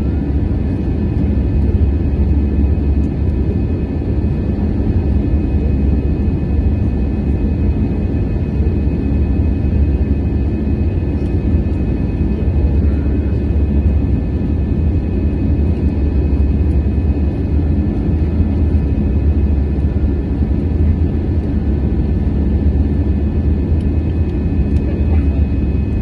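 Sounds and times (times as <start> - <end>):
faint steady whines: 0.0 - 26.0
jet engines deep rumble: 0.0 - 26.0.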